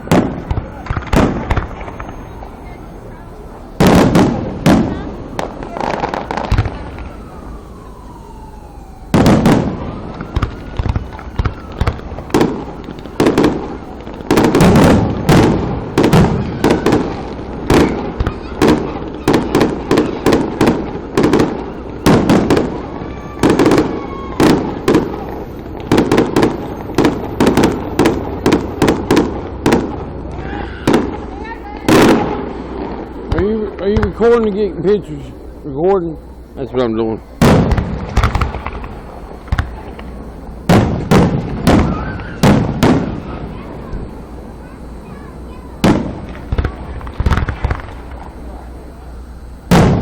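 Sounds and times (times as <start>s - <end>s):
heavy firework boom: 0.0s - 34.5s, 37.4s - 48.5s, 49.6s - 50.0s
firework bangs and cracks: 0.0s - 35.0s, 37.3s - 50.0s.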